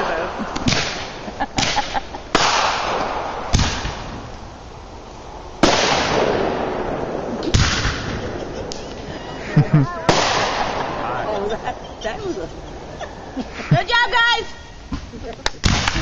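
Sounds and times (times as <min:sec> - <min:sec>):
fireworks bangs with hiss: 0:00.0 - 0:09.2, 0:10.0 - 0:16.0.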